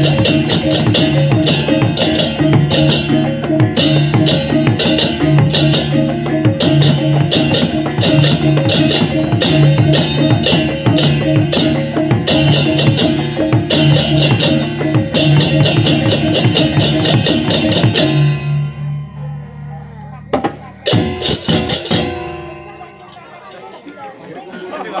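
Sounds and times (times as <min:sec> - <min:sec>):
drums: 0:00.0 - 0:23.7
hand cymbals clashing: 0:00.0 - 0:23.7.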